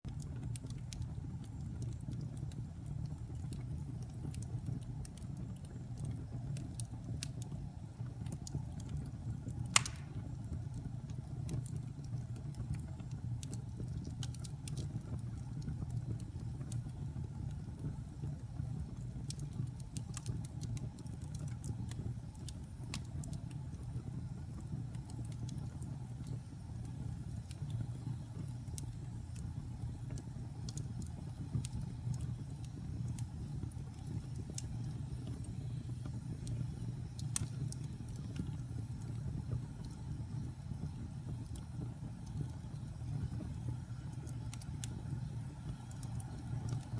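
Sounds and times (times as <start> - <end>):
fire crackling and popping: 0.1 - 46.9
wood fire flames rumbling: 0.1 - 46.9.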